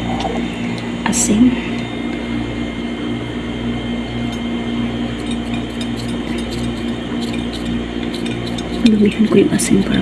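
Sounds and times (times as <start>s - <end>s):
appliance electric hum: 0.0s - 10.0s.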